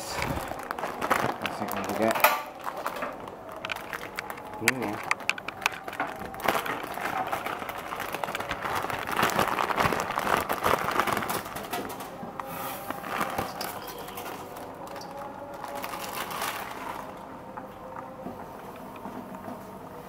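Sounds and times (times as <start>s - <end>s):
plastic packet crinkling: 0.0s - 18.0s.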